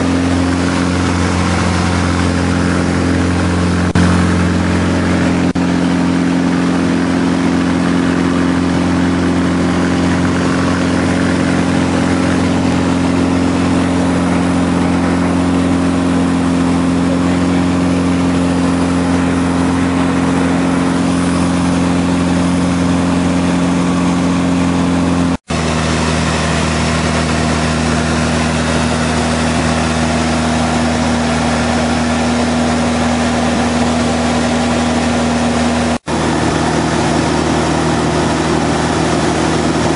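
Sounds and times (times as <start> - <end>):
airplane engine droning: 0.0 - 39.9.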